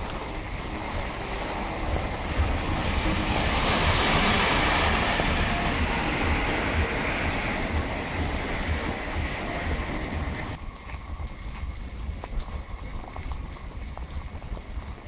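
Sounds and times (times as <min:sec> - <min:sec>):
rain hissing: 0:00.0 - 0:15.0
wind buffeting microphone: 0:00.0 - 0:15.0.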